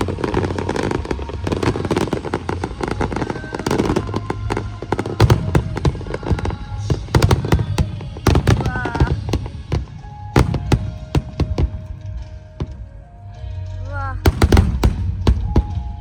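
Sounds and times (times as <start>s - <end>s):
heavy firework booms: 0.0s - 12.8s, 14.2s - 16.0s
fireworks crackling: 0.0s - 13.0s, 14.2s - 16.0s.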